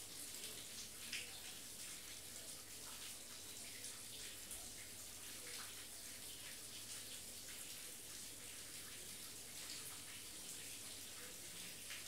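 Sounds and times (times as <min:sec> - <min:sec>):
faint hiss of rain: 0:00.0 - 0:12.0.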